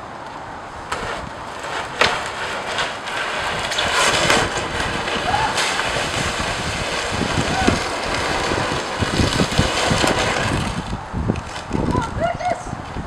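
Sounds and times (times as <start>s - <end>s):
plastic sled scraping over ice: 0.8s - 12.2s.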